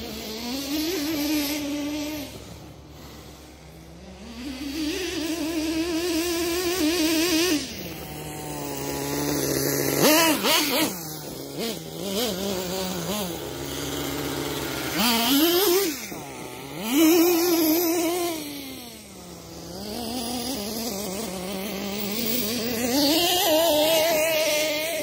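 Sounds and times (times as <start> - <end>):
small nitro engine revving: 0.0 - 25.0.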